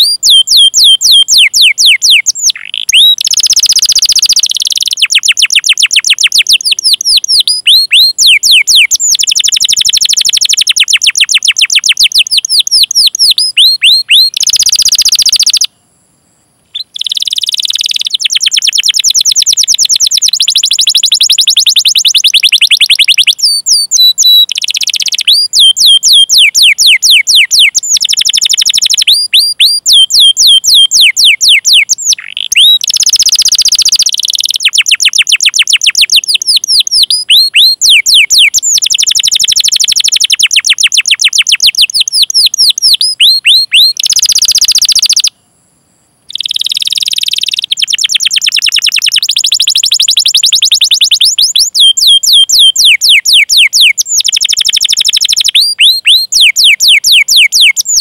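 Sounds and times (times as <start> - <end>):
canary singing chirps and trills: 0.0 - 15.7, 16.7 - 45.3, 46.3 - 58.0.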